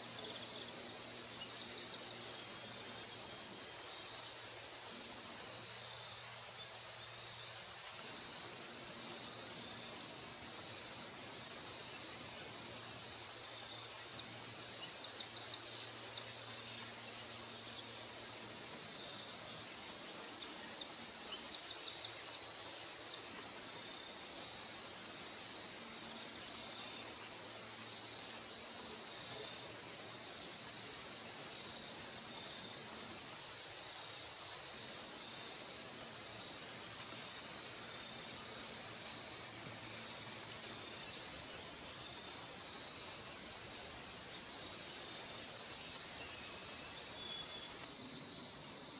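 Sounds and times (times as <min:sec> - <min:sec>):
faint background hiss: 0:00.0 - 0:48.9
insects chirping: 0:00.0 - 0:48.9.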